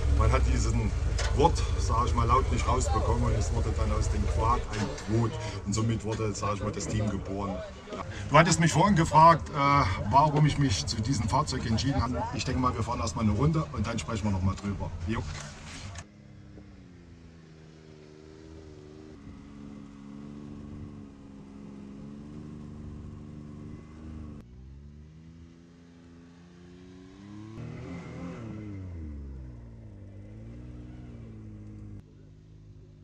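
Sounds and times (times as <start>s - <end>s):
buggy engine running and revving: 0.0s - 33.0s.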